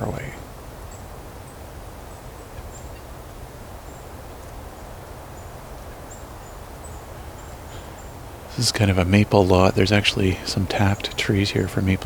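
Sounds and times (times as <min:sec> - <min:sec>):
high thin songbird calls: 0:00.0 - 0:12.0
outdoor background hiss: 0:00.0 - 0:12.0.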